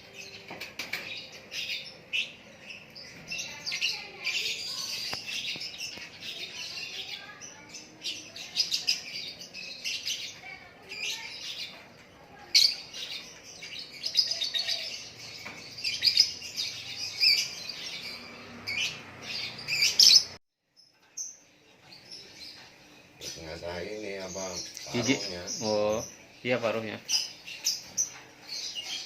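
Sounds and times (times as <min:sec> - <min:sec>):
bird singing varied song: 0:00.0 - 0:29.0.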